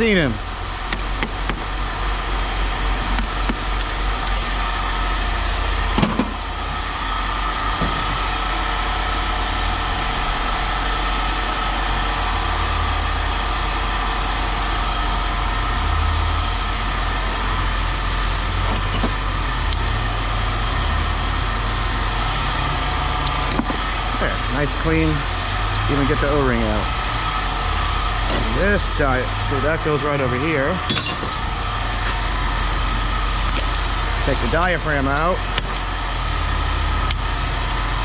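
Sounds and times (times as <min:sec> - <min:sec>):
motor running: 0:00.0 - 0:38.0.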